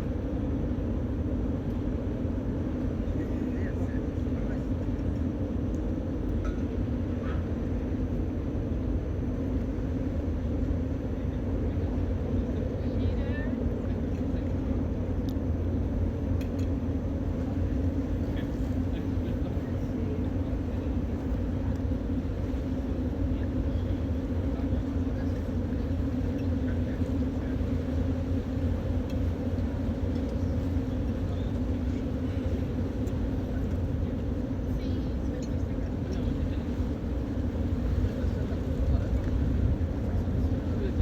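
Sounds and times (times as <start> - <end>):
ship engines rumbling: 0.0 - 41.0.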